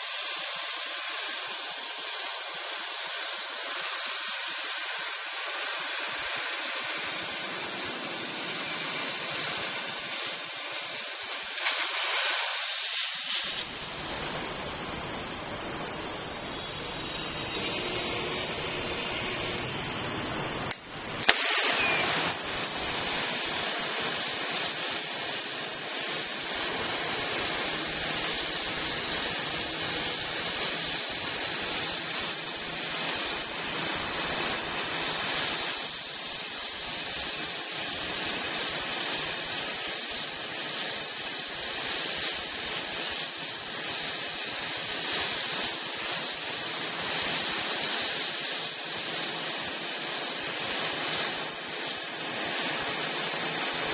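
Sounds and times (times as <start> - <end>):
flame-cutting torch hissing: 0.0 - 53.9.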